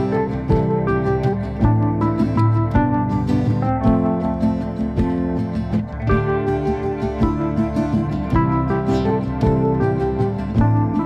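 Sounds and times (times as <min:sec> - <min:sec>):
instrumental music sustained notes: 0:00.0 - 0:11.0.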